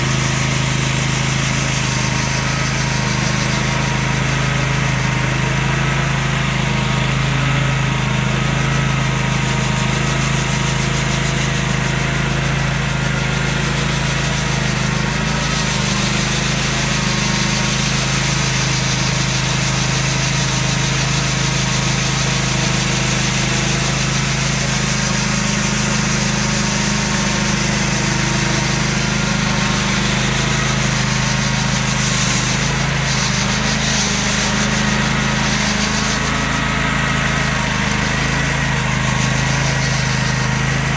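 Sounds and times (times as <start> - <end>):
rotary brush sweeping snow: 0.0 - 6.2, 8.6 - 40.9
ride-on mower engine running: 0.0 - 40.9.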